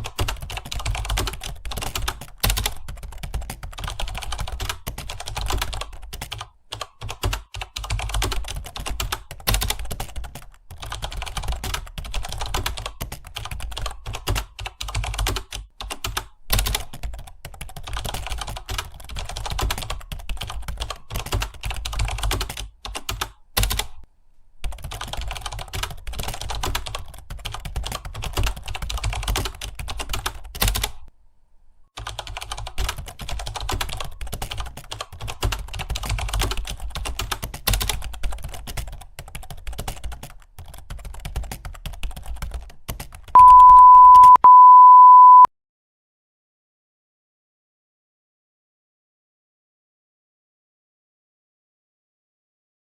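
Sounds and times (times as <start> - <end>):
fast typing on a keyboard: 0.0 - 24.0, 24.6 - 31.1, 32.0 - 44.4.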